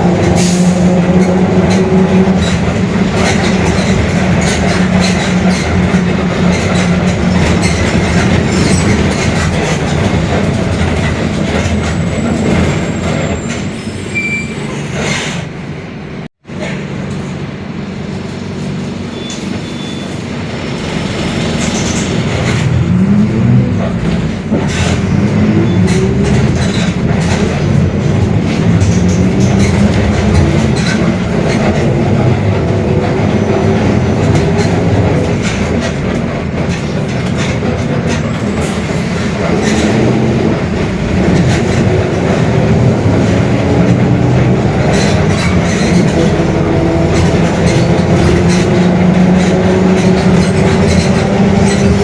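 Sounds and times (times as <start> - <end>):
rattling and clatter: 0.0 - 13.2, 20.7 - 52.0
bus drivetrain drone: 0.0 - 13.9, 14.6 - 52.0.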